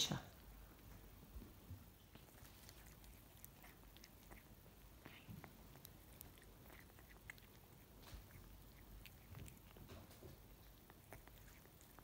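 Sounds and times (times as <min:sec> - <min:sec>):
cats chewing grass: 0:00.1 - 0:12.0.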